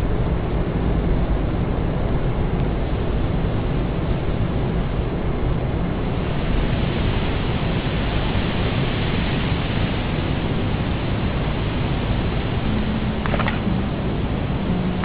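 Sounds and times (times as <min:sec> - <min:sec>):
steady low rushing noise: 0:00.0 - 0:15.0.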